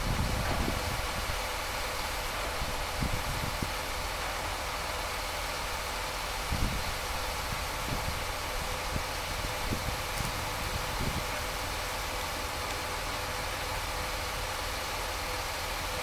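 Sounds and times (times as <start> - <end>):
engine idling: 0.0 - 16.0
hiss: 0.0 - 16.0.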